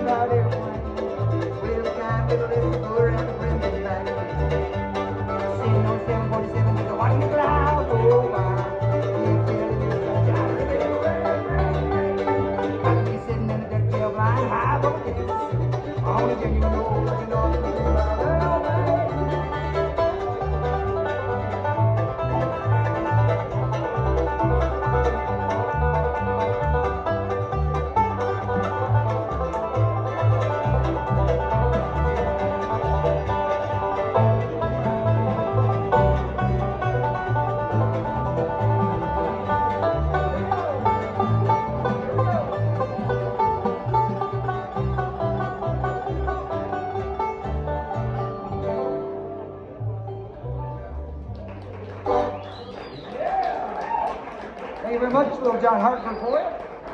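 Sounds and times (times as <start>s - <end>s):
acoustic guitar: 0.0s - 53.1s
plucked upright bass: 0.0s - 53.5s
banjo picking: 0.0s - 55.8s
mandolin: 0.0s - 56.9s.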